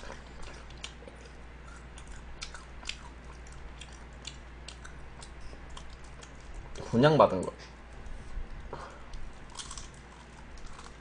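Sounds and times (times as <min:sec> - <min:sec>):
mouth chewing crunchy food: 0:00.0 - 0:06.8, 0:08.7 - 0:11.0.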